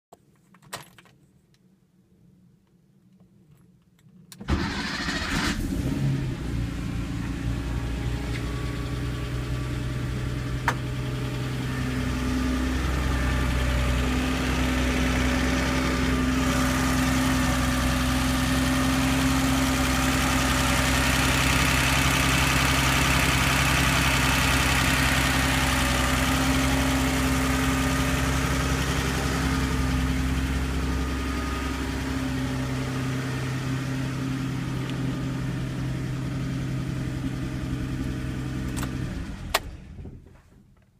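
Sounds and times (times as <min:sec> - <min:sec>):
car engine idling: 0:04.5 - 0:40.0.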